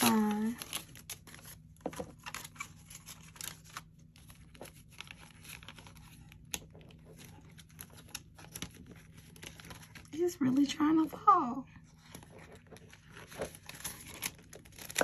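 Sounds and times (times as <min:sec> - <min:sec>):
banknotes rustling and crinkling: 0:00.0 - 0:15.0.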